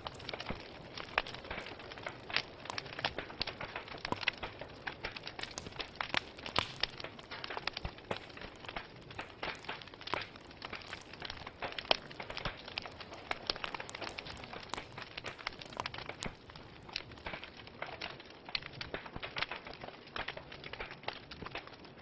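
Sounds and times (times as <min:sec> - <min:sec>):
hiss of burning wood: 0:00.0 - 0:18.1
log fire crackling and popping: 0:00.0 - 0:22.0.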